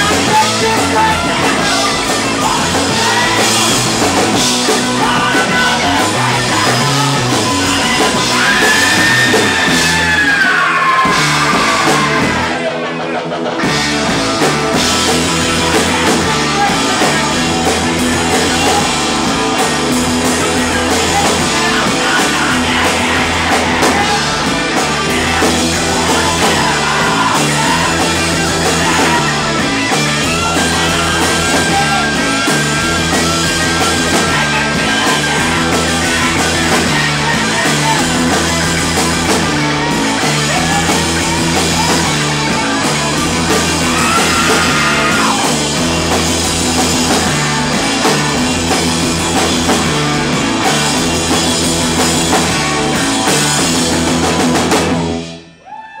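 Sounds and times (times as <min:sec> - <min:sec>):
live rock band playing: 0:00.0 - 0:55.6.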